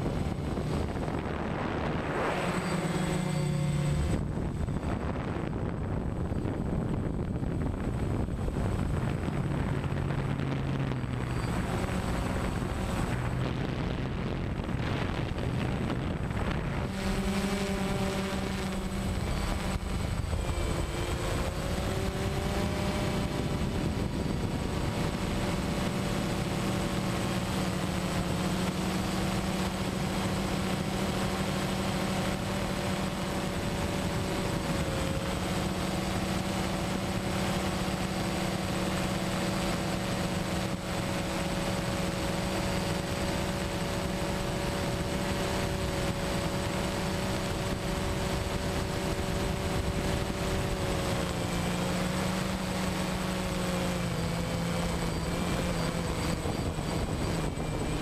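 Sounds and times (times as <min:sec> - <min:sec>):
drone propellers whirring hum: 0:00.0 - 0:58.0.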